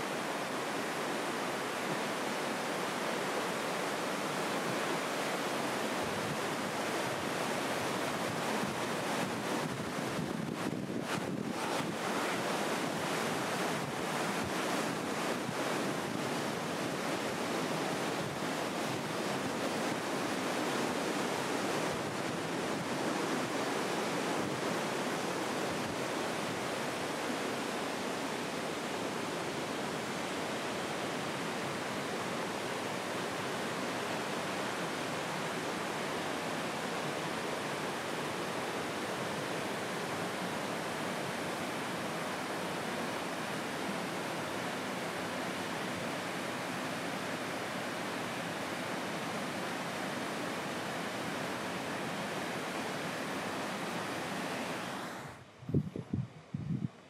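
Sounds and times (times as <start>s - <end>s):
flowing water rushing: 0.0s - 55.6s.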